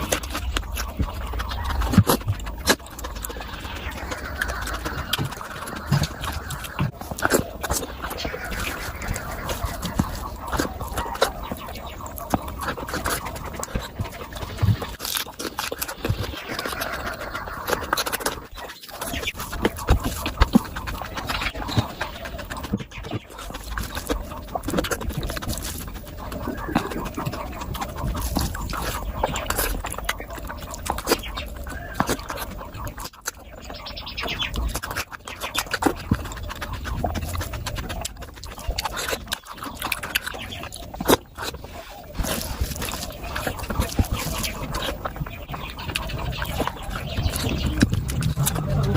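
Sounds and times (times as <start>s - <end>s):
wet chewing and lip smacks: 0.0s - 48.9s.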